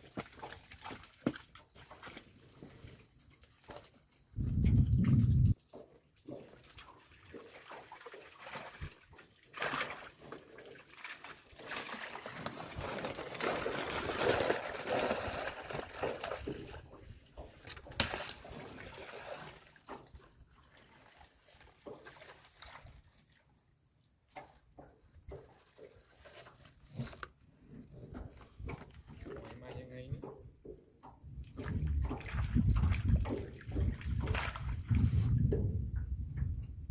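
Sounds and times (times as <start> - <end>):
water splashing and trickling: 0.0 - 36.9.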